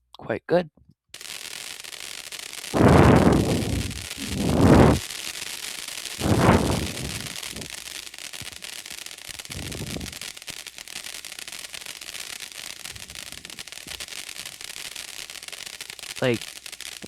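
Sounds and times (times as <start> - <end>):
firework fountain hissing and crackling: 1.2 - 17.0.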